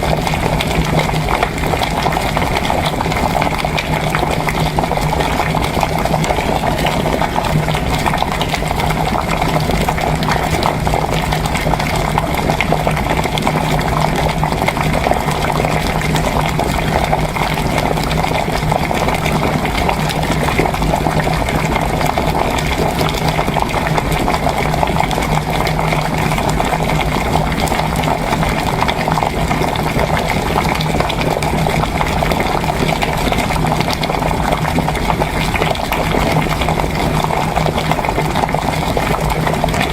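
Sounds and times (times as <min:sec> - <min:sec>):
water boiling and bubbling: 0:00.0 - 0:39.9.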